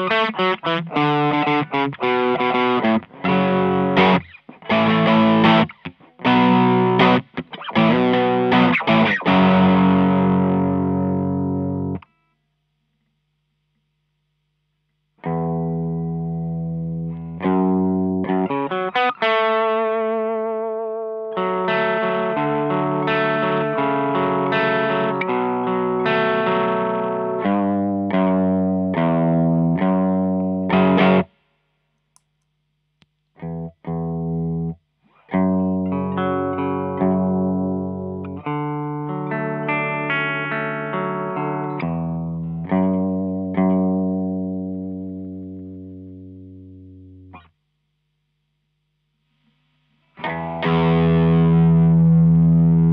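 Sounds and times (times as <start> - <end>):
overdriven electric guitar: 0.0 - 12.3, 15.2 - 31.3, 33.4 - 47.6, 49.5 - 52.9.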